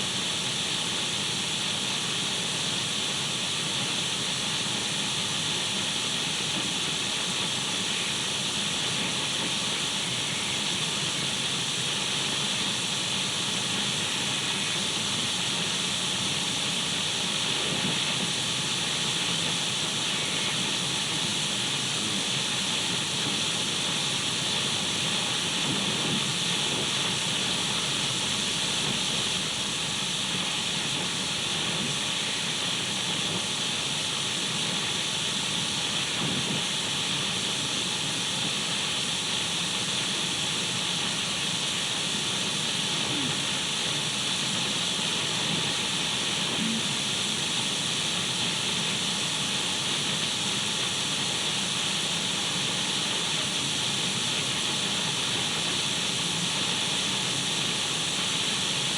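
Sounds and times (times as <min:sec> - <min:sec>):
radio static hiss: 0:05.6 - 0:58.9.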